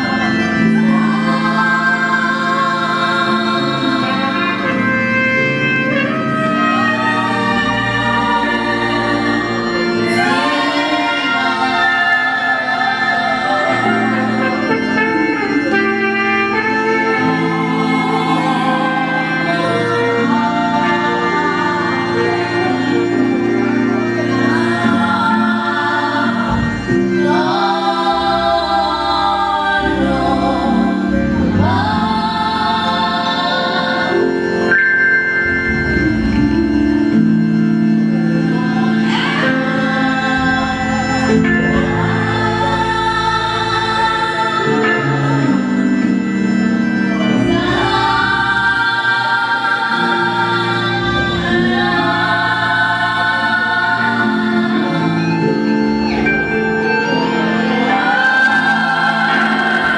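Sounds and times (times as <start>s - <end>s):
choir singing a hymn: 0.0s - 59.9s
organ chords: 0.0s - 59.9s.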